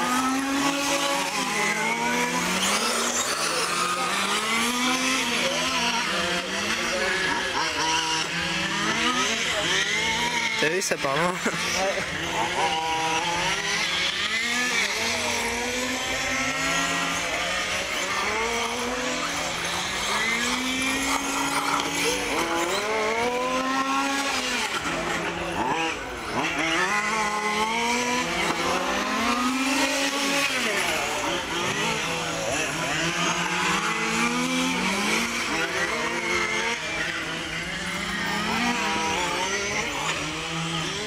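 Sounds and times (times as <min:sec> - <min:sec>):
electric motor whine: 0:00.0 - 0:41.0.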